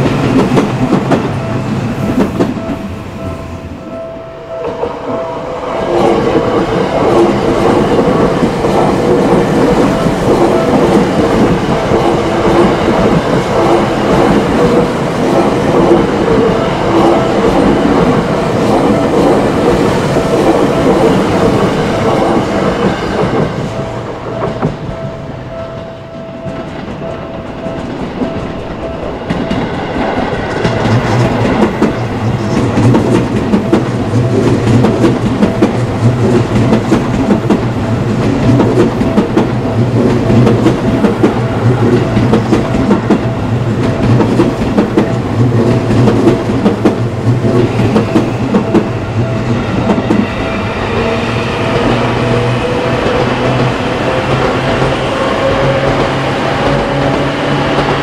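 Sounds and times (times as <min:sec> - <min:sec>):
train wheels clattering on rails: 0:00.0 - 0:03.5, 0:04.6 - 0:58.0
crossing warning bell ringing: 0:00.0 - 0:58.0.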